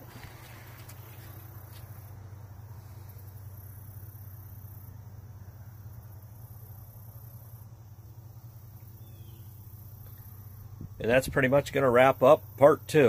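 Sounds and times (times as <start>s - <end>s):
insect buzzing: 0.0s - 11.1s
steady low hum: 0.0s - 13.0s.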